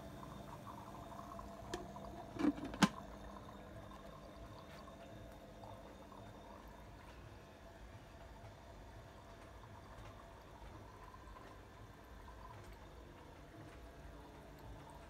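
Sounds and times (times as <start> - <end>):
faint steady hum: 0.0 - 15.0
watery gurgle of air and water: 0.0 - 15.0.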